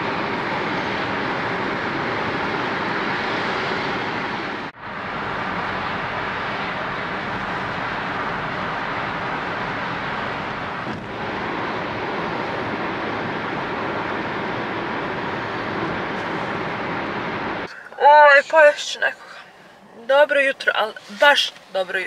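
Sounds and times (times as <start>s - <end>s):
road and wind noise in car: 0.0s - 22.0s.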